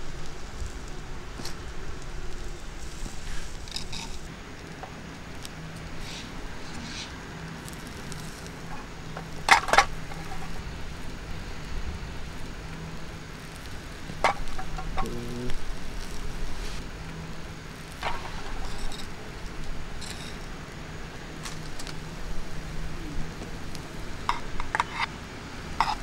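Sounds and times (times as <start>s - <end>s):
vegetables sizzling on hot stone: 0.0s - 26.0s.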